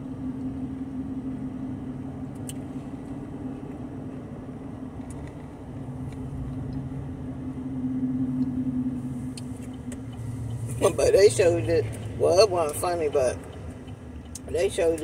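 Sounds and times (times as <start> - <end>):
car engine hum from inside: 0.0 - 15.0.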